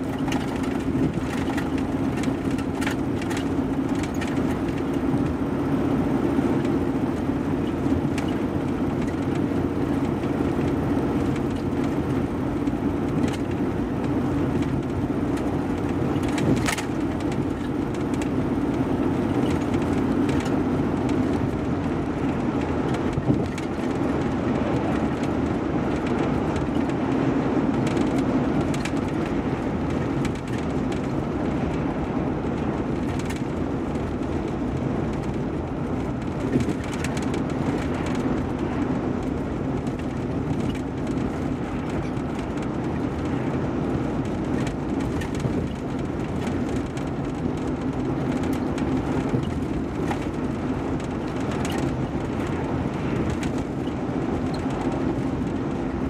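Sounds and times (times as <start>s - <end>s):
car road and tyre noise: 0.0s - 56.0s.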